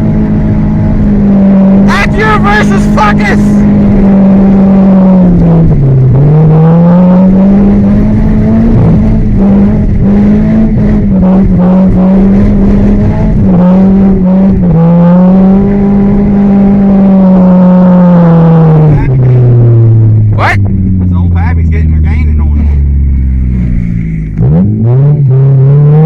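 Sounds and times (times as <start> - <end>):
car engine revving under load: 3.6 - 26.0.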